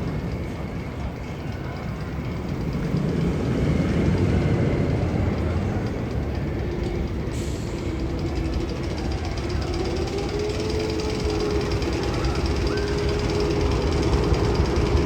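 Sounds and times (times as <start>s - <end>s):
faint rapid ticking: 2.1s - 15.0s.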